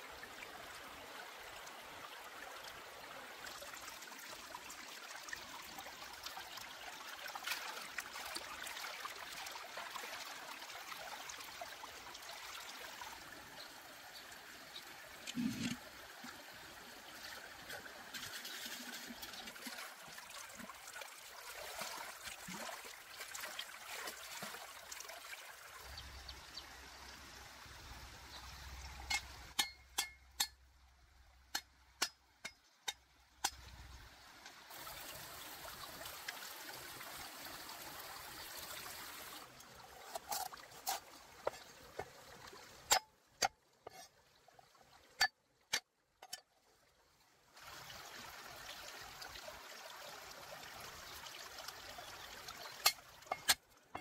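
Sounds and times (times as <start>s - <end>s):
stream water trickling over rocks: 0.0s - 54.0s.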